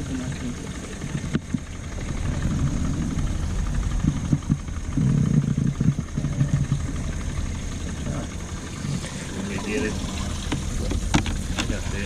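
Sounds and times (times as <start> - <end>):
boat motor idling: 0.0 - 12.0
knocks and clatter: 1.0 - 9.0, 10.2 - 11.9.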